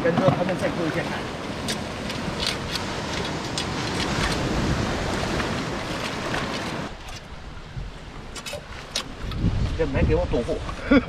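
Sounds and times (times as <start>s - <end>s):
surf on rocky shore: 0.0s - 11.0s
wind buffeting microphone: 0.0s - 11.0s.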